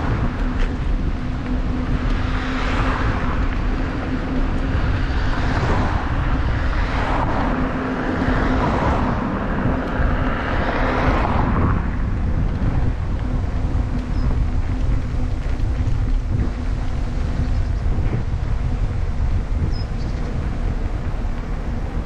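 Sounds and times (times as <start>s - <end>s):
vehicles swishing past: 0.0s - 22.0s
wind rumbling on microphone: 0.0s - 22.0s.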